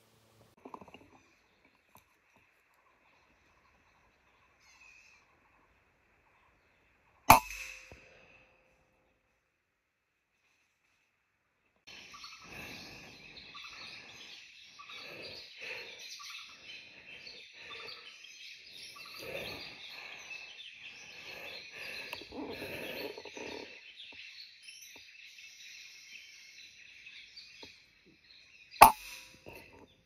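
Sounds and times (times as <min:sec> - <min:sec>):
birds chirping and calling: 0:01.0 - 0:08.3, 0:11.9 - 0:30.0.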